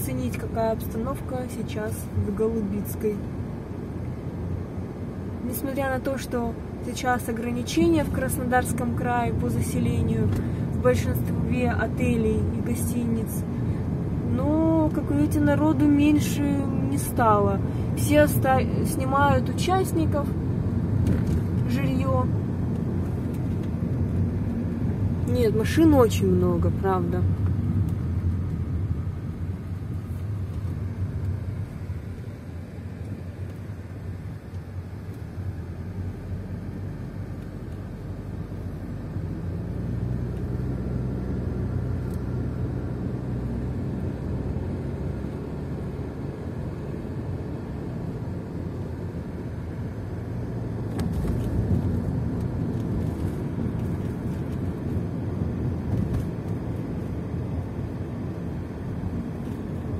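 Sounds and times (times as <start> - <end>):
car engine hum: 0.0 - 59.9
road noise: 0.0 - 59.9.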